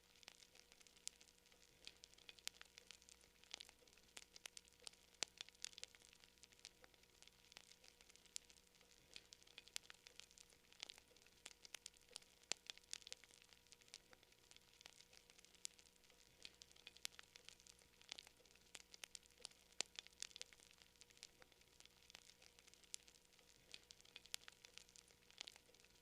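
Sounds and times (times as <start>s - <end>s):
campfire crackling: 0.0s - 26.0s
faint steady hiss: 0.0s - 26.0s.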